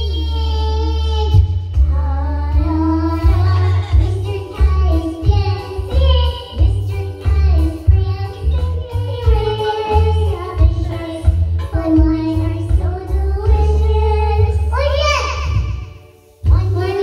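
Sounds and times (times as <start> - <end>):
backing music with bass beat: 0.0 - 17.0
girl singing into microphone: 0.0 - 17.0.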